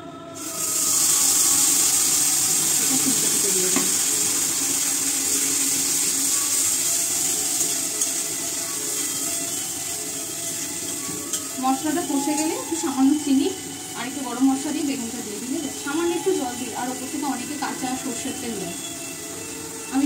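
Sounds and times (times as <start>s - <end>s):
spice paste sizzling in oil: 0.4s - 20.0s.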